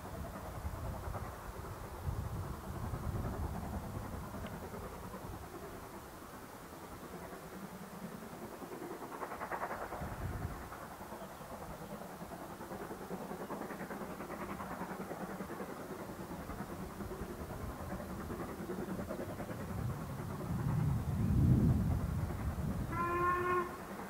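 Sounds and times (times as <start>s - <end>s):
steam locomotive exhaust beats: 0.0s - 24.0s.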